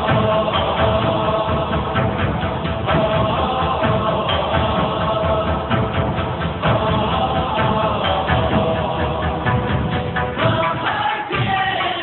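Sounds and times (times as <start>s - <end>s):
chant-like tones: 0.0s - 12.0s
music with steady beat: 0.0s - 12.0s.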